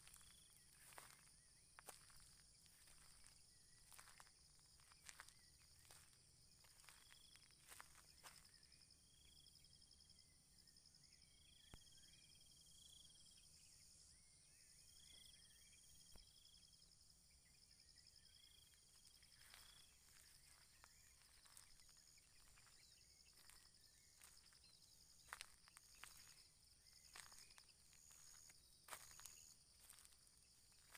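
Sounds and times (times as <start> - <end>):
insects trilling: 0.0 - 10.3, 14.9 - 30.9.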